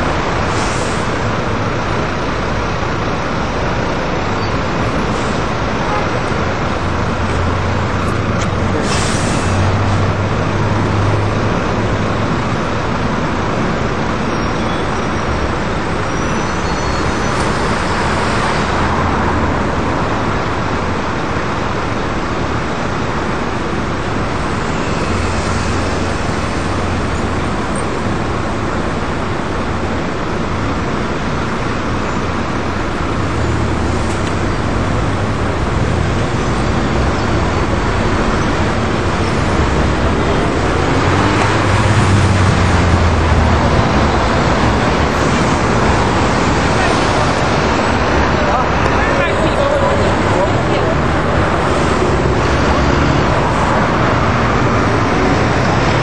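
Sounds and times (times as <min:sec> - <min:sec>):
city road traffic: 0:00.0 - 0:56.0.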